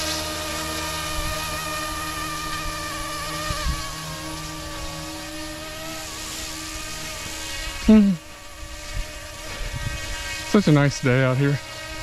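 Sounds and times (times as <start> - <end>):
rc helicopter rotors whining: 0.0 - 12.0.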